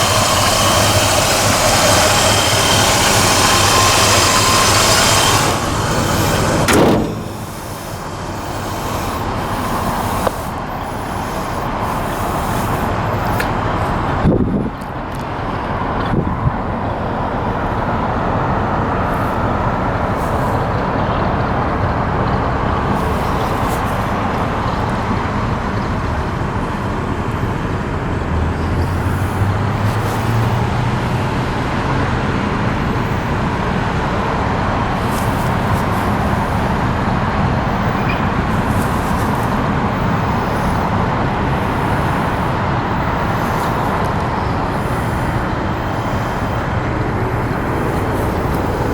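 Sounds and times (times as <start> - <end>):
pickup truck engine running: 0.0 - 14.2, 14.8 - 48.9
road noise: 0.0 - 48.9.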